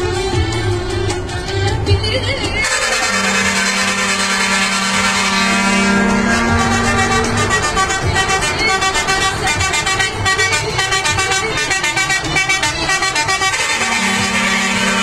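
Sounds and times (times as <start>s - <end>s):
steady low horn tone: 2.6s - 15.0s
truck horns playing a tune: 2.6s - 15.0s.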